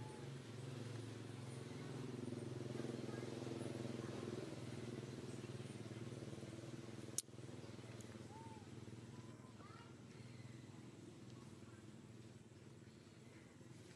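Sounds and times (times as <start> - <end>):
engine humming: 0.0 - 13.9.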